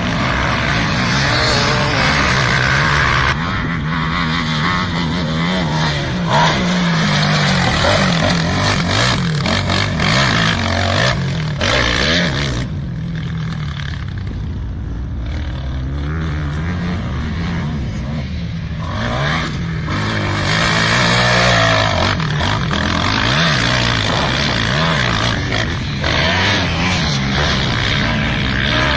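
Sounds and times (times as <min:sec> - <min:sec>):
quad engine revving: 0:00.0 - 0:14.1, 0:18.8 - 0:28.9.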